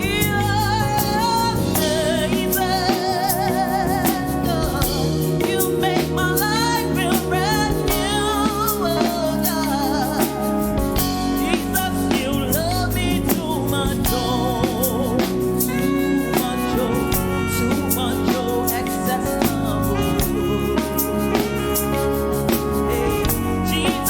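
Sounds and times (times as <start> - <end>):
band with bass and drums: 0.0 - 24.0
person singing gospel melody: 0.0 - 24.0.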